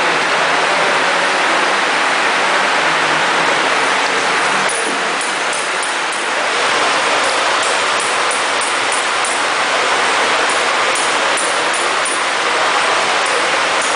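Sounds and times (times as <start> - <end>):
lathe running with mechanical hiss: 0.0 - 13.9.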